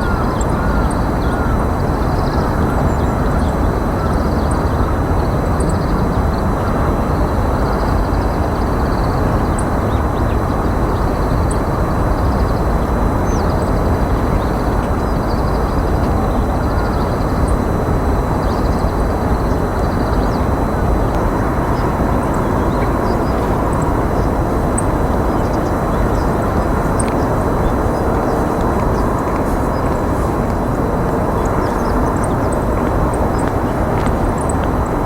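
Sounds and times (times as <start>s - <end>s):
low rushing background noise: 0.0s - 35.0s.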